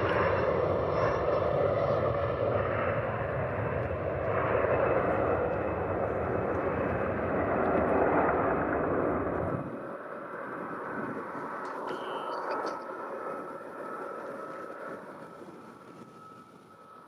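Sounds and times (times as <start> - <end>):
jet engine rushing: 0.0 - 17.0.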